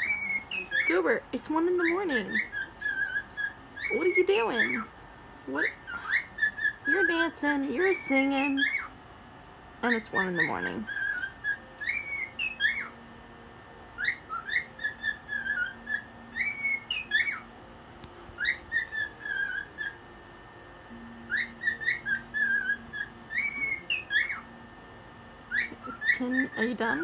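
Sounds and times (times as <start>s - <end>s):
cockatiel whistling: 0.0s - 4.9s, 5.6s - 9.0s, 9.8s - 13.0s, 14.0s - 17.5s, 18.3s - 20.0s, 21.0s - 24.6s, 25.5s - 27.0s.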